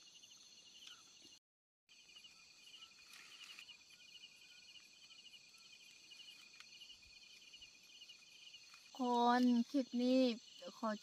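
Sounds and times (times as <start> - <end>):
crickets trilling: 0.0 - 11.0
insect chirps: 0.0 - 11.0.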